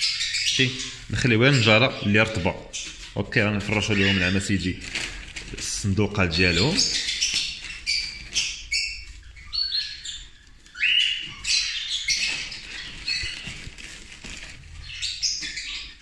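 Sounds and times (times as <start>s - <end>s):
cockatiels chirping and squawking: 0.0s - 5.6s, 6.2s - 16.0s
wood shavings rustling: 2.9s - 16.0s.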